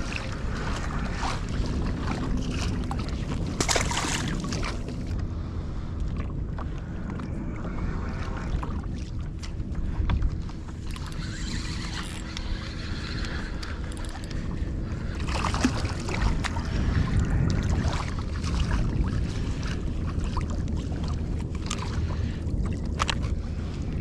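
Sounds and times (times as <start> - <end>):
water sloshing around kayak: 0.0 - 24.0
wind buffeting microphone: 0.0 - 24.0.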